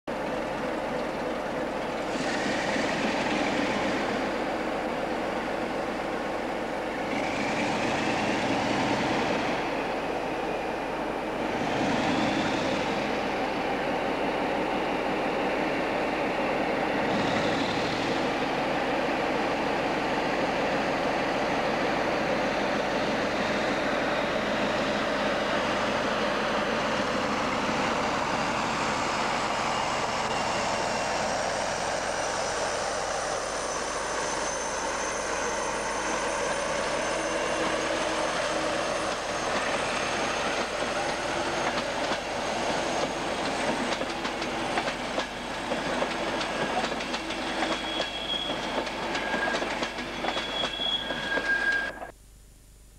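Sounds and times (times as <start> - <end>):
diesel locomotive engine: 0.0 - 52.1.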